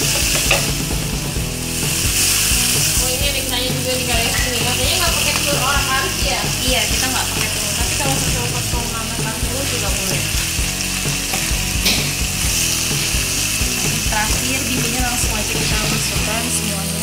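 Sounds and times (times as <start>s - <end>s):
food sizzling in a wok: 0.0s - 17.0s
wooden spatula scraping wok: 0.0s - 17.0s.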